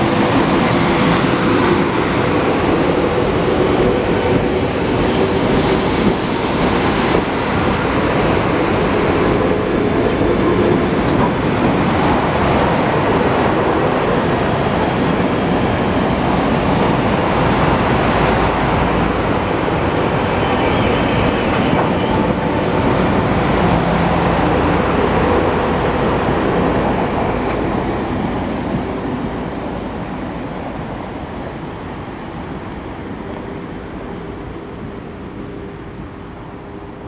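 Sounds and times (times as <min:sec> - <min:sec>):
train wheels rushing on rail: 0:00.0 - 0:37.0.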